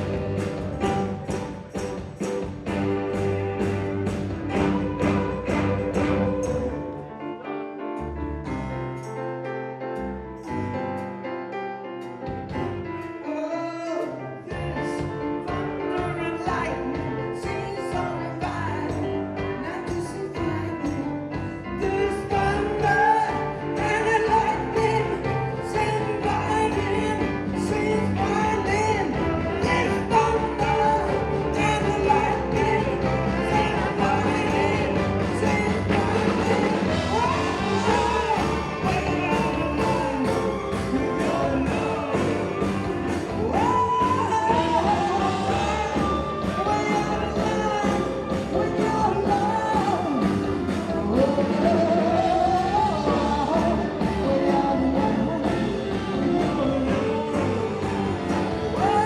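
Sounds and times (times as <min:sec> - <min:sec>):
lead singer singing: 0:00.0 - 0:07.3, 0:13.2 - 0:59.0
live band playing: 0:00.0 - 0:59.0.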